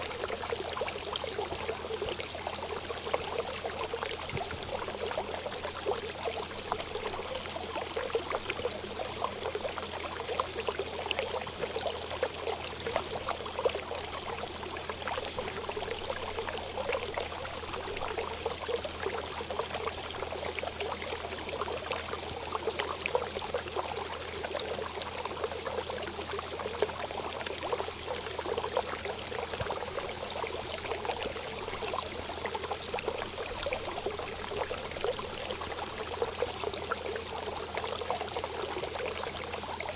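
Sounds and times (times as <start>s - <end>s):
trickling stream: 0.0s - 39.9s
water splashes and drips: 0.0s - 39.9s.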